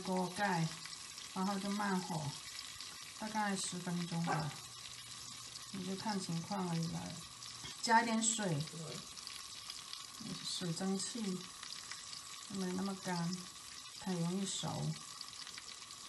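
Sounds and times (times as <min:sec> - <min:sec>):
pancakes sizzling in oil: 0:00.0 - 0:16.0.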